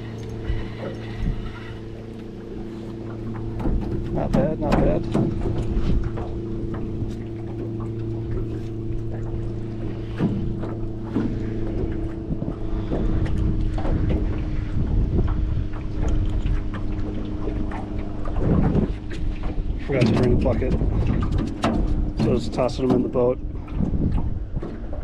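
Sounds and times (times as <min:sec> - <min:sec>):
boat motor humming: 0:00.0 - 0:25.0
wind buffeting microphone: 0:00.0 - 0:25.0.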